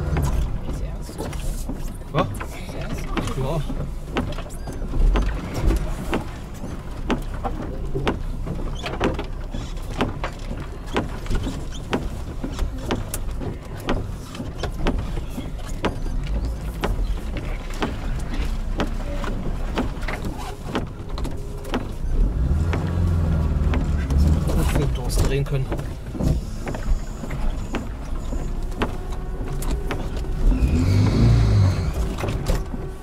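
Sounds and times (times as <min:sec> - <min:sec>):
car engine running low: 0:00.0 - 0:33.0
car knocks and rattles: 0:00.0 - 0:33.0.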